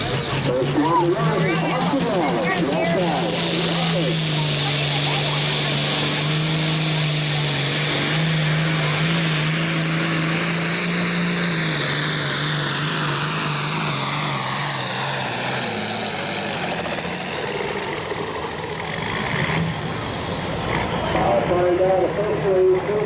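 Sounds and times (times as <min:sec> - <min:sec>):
diesel tractor engine at full throttle: 0:00.0 - 0:23.0
high turbo whine: 0:00.0 - 0:23.0.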